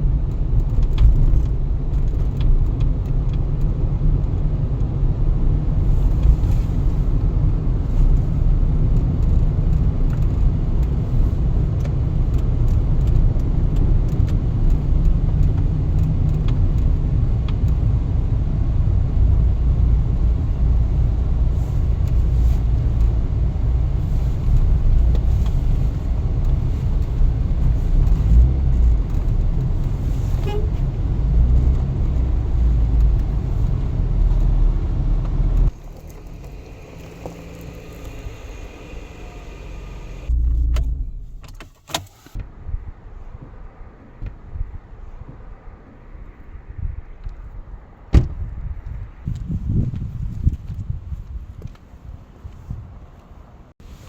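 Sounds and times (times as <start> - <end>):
motor vehicle rumbling: 0.0 - 54.0.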